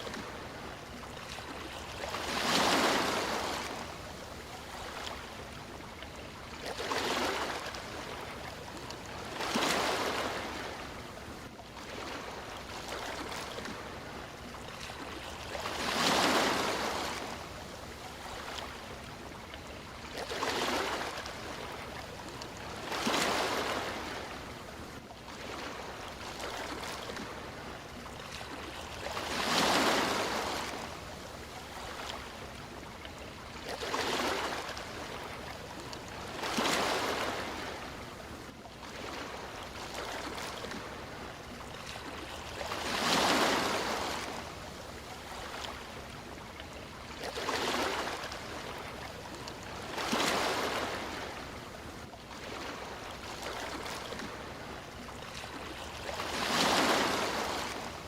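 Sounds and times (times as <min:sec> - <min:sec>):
sea waves washing onto shore: 0:00.0 - 0:46.3, 0:46.9 - 0:58.0.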